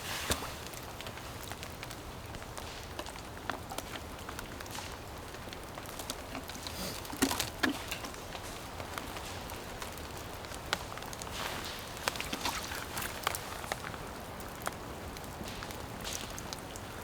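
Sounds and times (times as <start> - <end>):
rain patter: 0.0 - 17.0.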